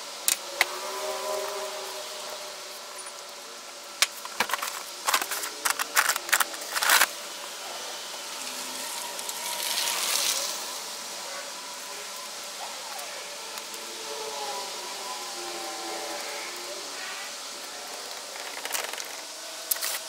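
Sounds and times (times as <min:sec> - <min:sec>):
sand pouring hiss: 0:00.0 - 0:20.0.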